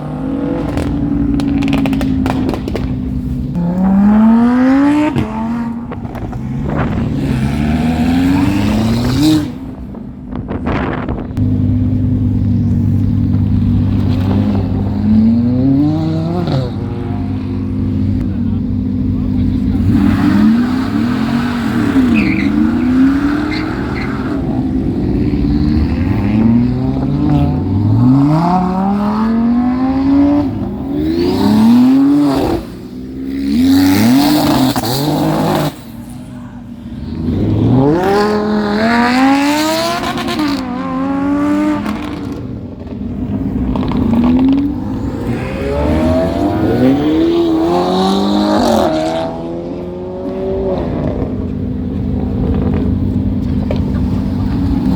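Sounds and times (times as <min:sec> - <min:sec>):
car engine revving hard: 0:00.0 - 0:02.9, 0:03.5 - 0:09.8, 0:12.0 - 0:36.0, 0:37.0 - 0:51.5.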